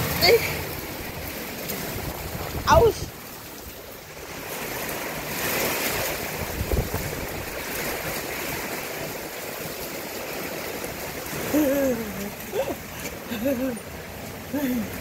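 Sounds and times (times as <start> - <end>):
heavy rain and hail: 0.0 - 15.0.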